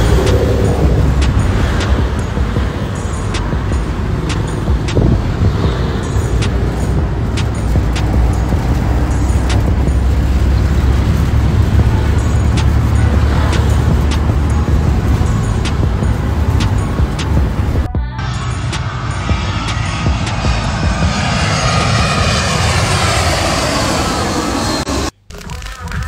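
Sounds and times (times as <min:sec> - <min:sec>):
music with steady beat: 0:00.0 - 0:23.0
vehicle engine and road rumble: 0:00.0 - 0:26.0.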